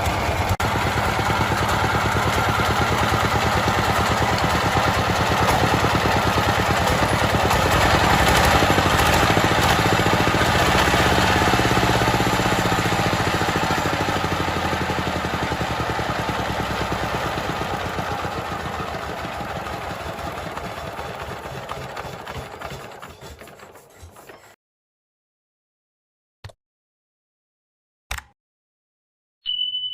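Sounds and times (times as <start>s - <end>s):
engine running with fast even beat: 0.0s - 24.4s.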